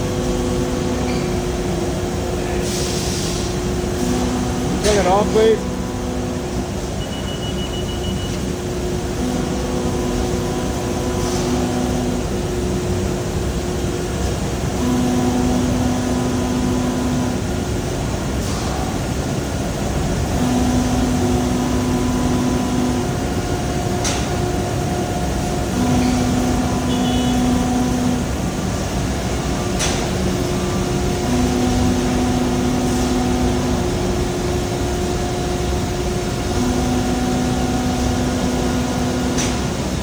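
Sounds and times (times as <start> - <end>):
hydraulic power unit running: 0.0 - 40.0.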